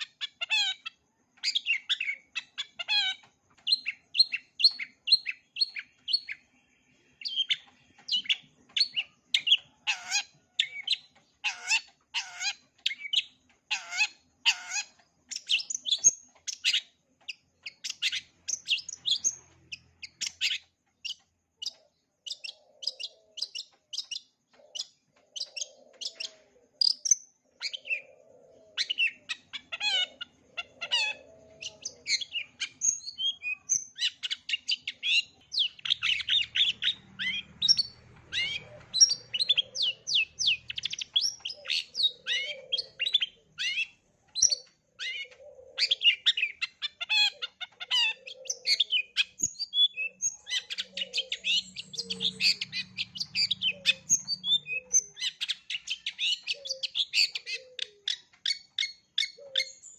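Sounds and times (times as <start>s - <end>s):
bird singing chirps and whistles: 0.0s - 59.9s.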